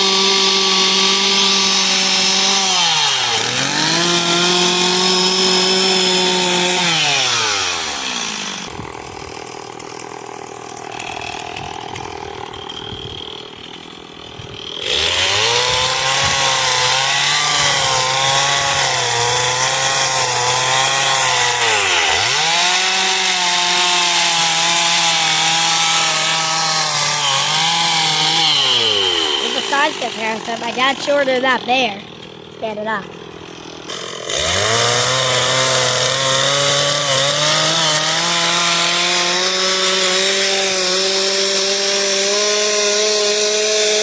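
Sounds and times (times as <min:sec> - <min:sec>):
chainsaw cutting wood: 0:00.0 - 0:44.0.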